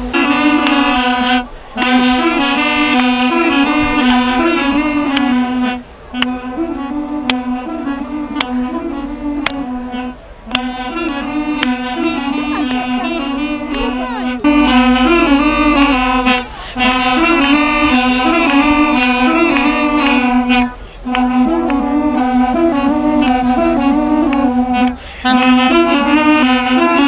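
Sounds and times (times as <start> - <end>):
duduks playing a melody: 0.0 - 27.0
held low drone note: 0.0 - 27.0.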